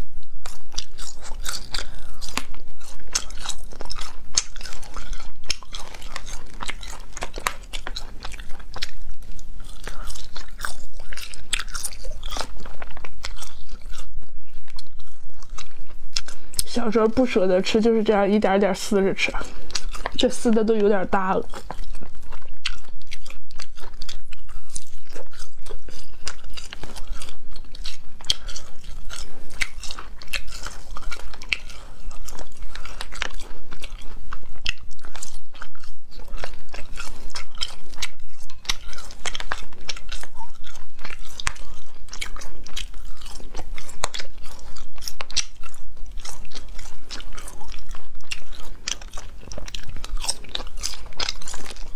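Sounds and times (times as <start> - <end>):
wet chewing mouth clicks: 0.0 - 51.9.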